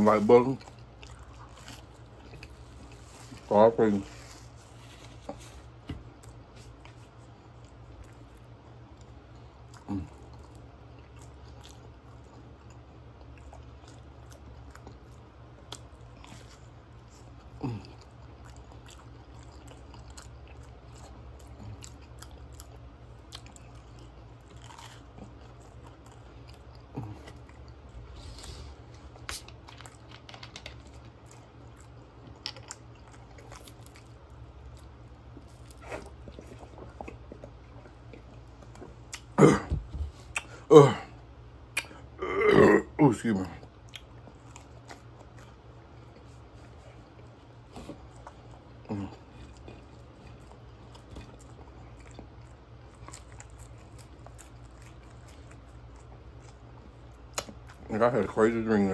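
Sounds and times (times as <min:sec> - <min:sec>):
person biting and chewing sandwich: 0:00.1 - 0:41.0, 0:43.8 - 0:57.9.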